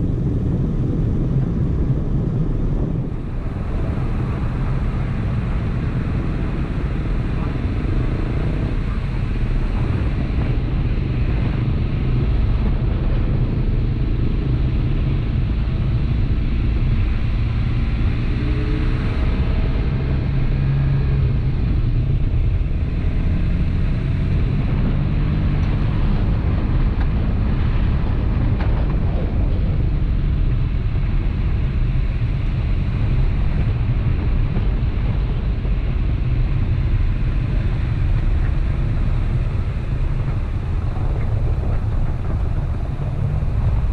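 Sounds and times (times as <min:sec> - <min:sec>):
pickup engine drone: 0:00.0 - 0:43.9.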